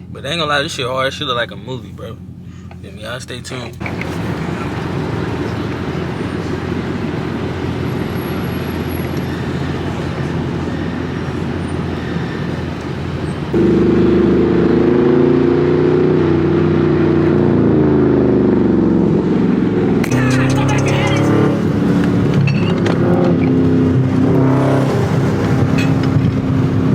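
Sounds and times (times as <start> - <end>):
car engine droning: 0.0 - 26.9
road noise: 0.0 - 26.9.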